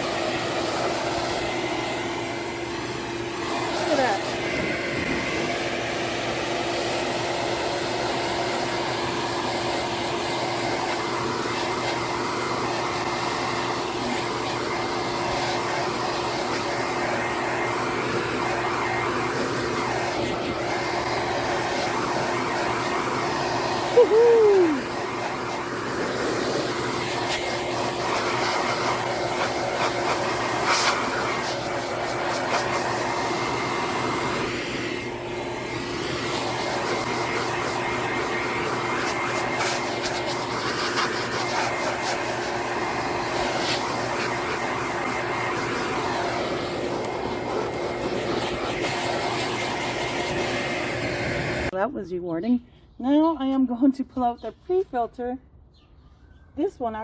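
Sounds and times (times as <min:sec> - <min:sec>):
electric blower whine: 0:00.0 - 0:51.7.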